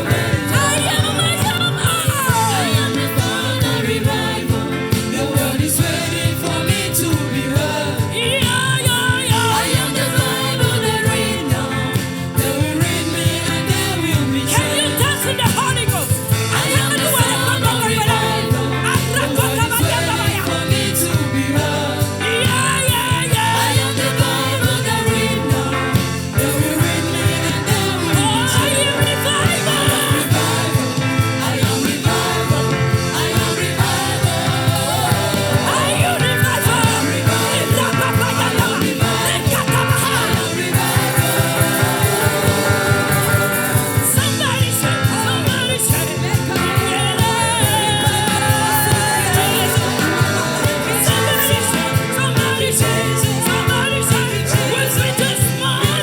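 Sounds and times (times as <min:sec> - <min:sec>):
band playing a steady beat: 0:00.0 - 0:56.0
person singing: 0:00.0 - 0:56.0.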